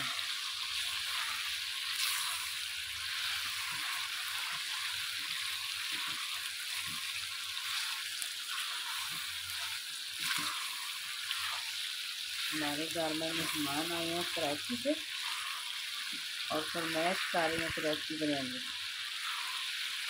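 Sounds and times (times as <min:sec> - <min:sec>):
chicken sizzling in hot oil: 0:00.0 - 0:20.0
wooden spatula turning food: 0:00.0 - 0:20.0.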